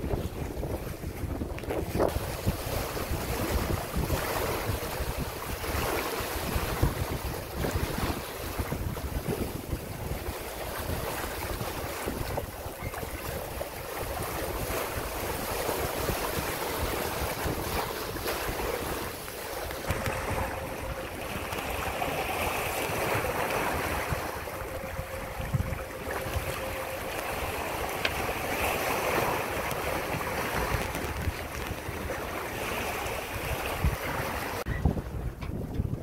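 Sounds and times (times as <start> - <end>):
water rushing in boat wake: 0.0 - 36.0
wind buffeting microphone: 0.0 - 36.0.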